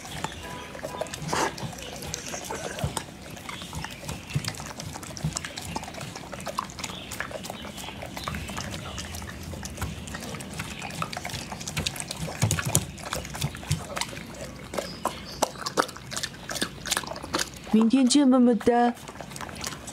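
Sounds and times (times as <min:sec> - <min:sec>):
dog chewing and licking: 0:00.0 - 0:19.9.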